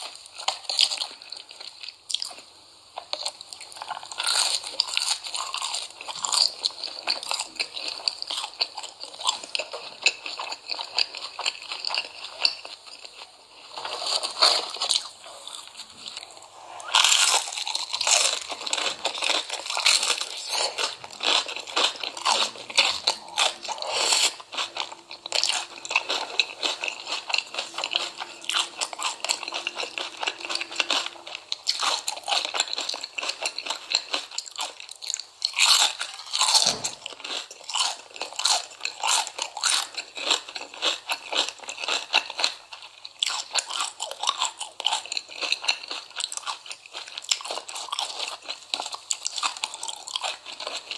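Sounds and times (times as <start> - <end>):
chewing crisp food: 0.0 - 50.9.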